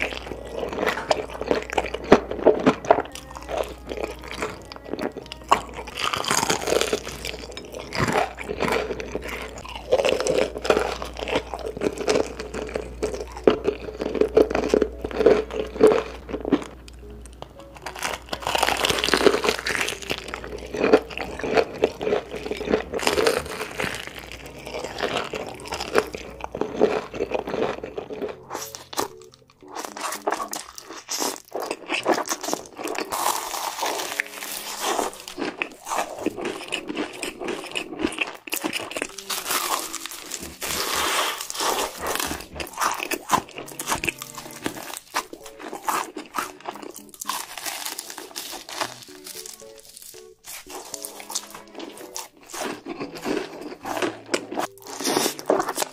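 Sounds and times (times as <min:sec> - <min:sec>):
crunching and chewing: 0:00.0 - 0:55.9.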